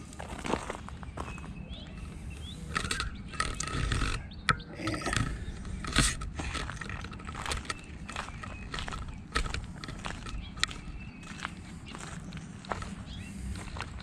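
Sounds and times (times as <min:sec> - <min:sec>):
footsteps crunching on rubble: 0:00.0 - 0:14.0.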